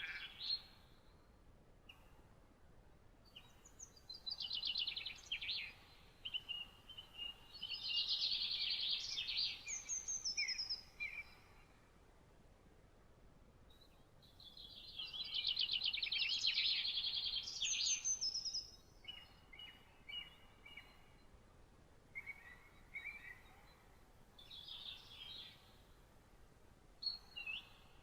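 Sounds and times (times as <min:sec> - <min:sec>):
songbirds singing: 0:00.0 - 0:02.4, 0:03.2 - 0:12.0, 0:13.6 - 0:26.4, 0:27.0 - 0:28.0
faint steady hiss: 0:00.0 - 0:28.0.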